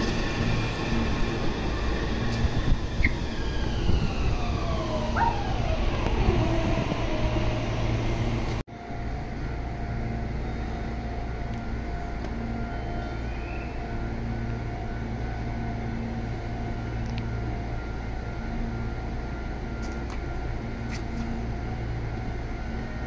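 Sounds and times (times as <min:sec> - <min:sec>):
traction motor whine: 0:00.0 - 0:23.0
train rumbling: 0:00.0 - 0:23.0.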